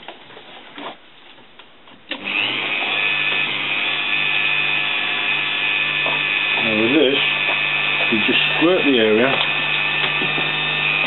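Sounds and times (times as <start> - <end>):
electric drill whining: 2.1 - 11.0.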